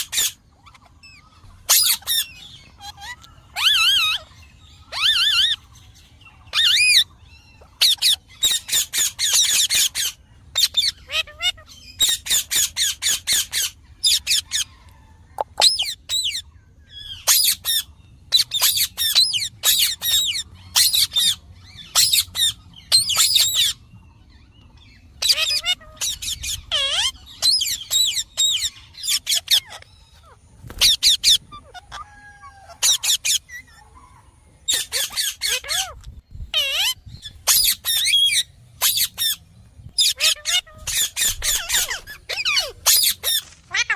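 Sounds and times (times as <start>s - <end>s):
parakeet screeching: 0.0s - 5.6s, 6.5s - 14.8s, 15.6s - 23.8s, 24.8s - 39.4s, 40.0s - 43.9s.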